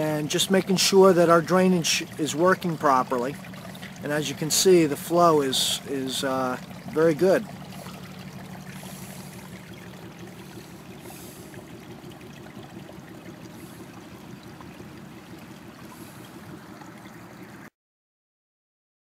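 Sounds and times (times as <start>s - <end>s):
water flowing from drain pipe: 0.0s - 17.7s
water trickling across gravel: 0.0s - 17.7s.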